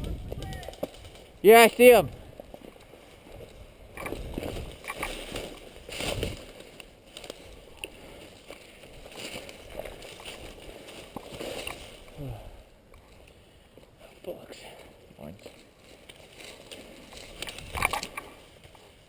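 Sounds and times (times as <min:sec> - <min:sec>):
footsteps through dry brush: 0:00.0 - 0:19.0.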